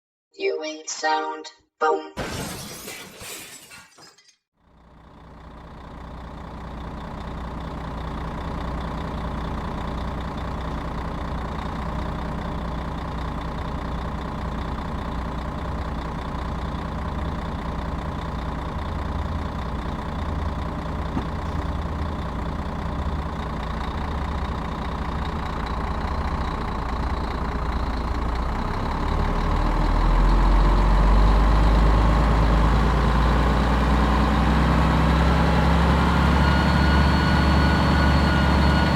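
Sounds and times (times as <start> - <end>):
bus engine idling: 4.7 - 38.9.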